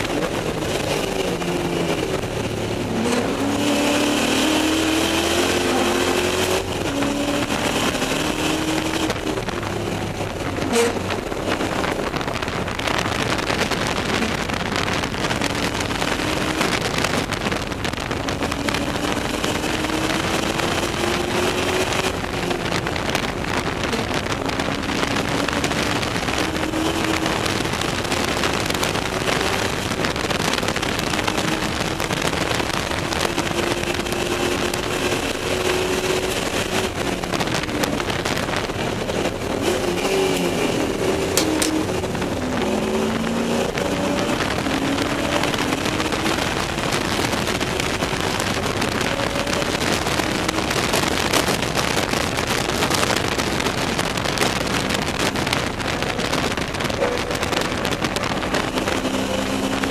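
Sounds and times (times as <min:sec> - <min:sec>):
race car engine revving: 0:00.0 - 0:59.9
wind and road noise: 0:00.0 - 0:59.9.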